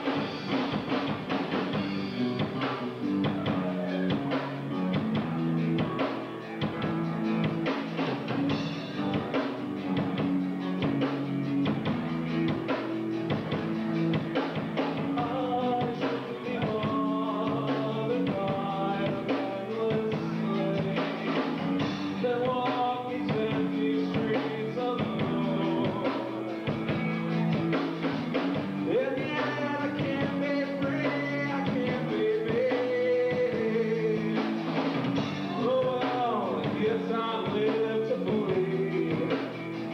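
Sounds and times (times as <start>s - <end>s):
drum kit: 0.0s - 39.9s
rock band playing live: 0.0s - 39.9s
person singing: 1.9s - 13.4s, 14.2s - 27.8s, 28.6s - 39.9s.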